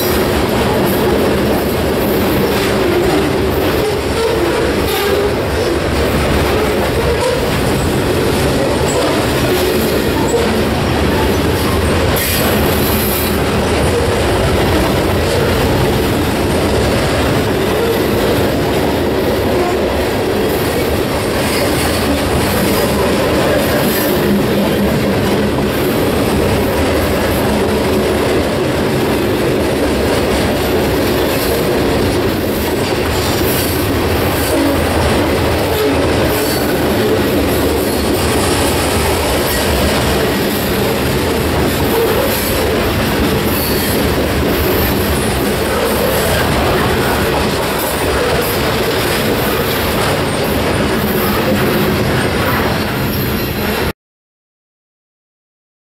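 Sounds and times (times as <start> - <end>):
freight train wheels on rails: 0.0 - 53.9.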